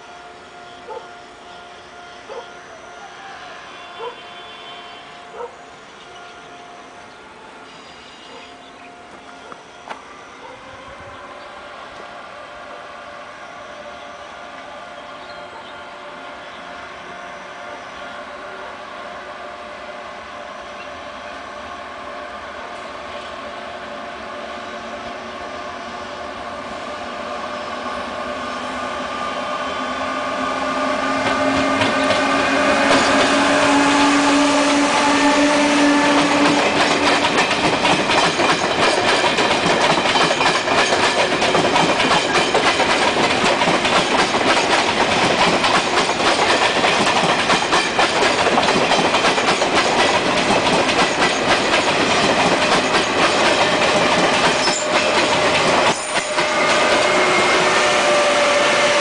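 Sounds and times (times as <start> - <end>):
electric train whining: 0.0 - 59.0
train rumble and wheel clatter: 0.0 - 59.0.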